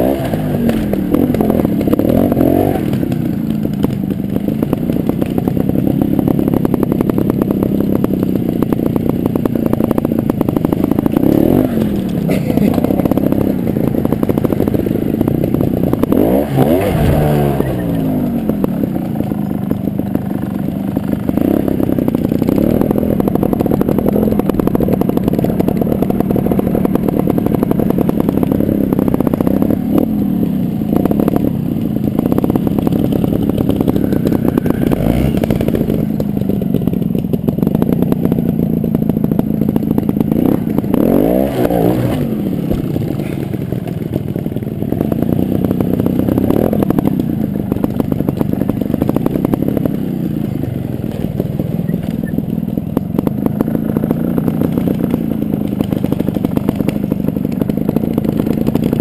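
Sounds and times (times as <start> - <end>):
engine throttle blips: 0.0 - 59.0
motorcycle engine running at low revs: 0.0 - 59.0.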